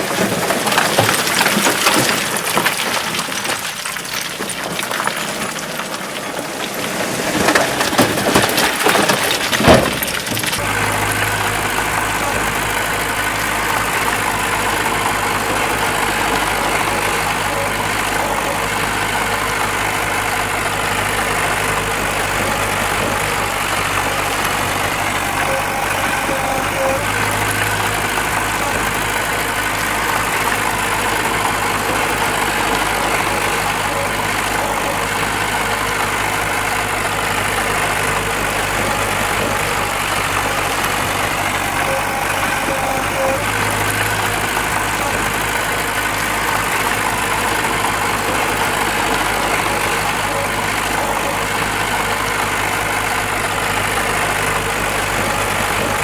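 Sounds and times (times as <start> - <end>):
diesel engine running: 0.0 - 56.0
rough crackling clatter: 0.0 - 56.0.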